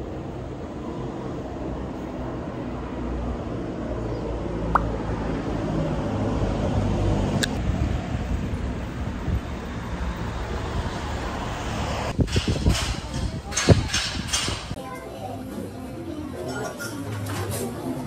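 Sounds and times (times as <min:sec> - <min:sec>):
passing vehicles rumbling: 0:00.0 - 0:14.8.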